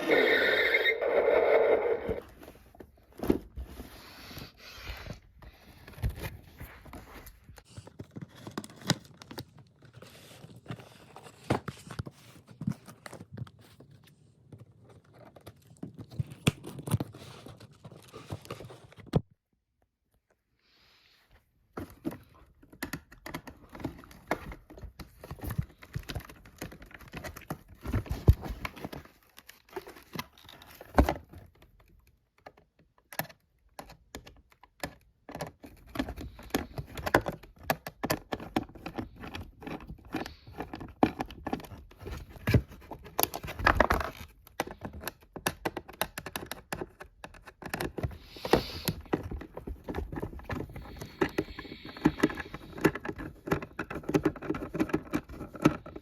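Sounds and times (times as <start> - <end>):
packaging crinkling and rustling: 5.5 - 19.2, 21.9 - 32.6, 35.4 - 56.0.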